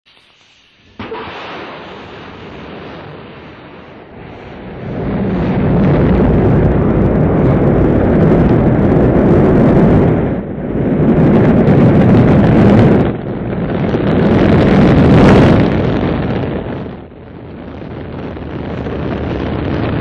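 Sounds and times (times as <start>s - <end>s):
rocket engines rumbling: 0.6s - 20.0s.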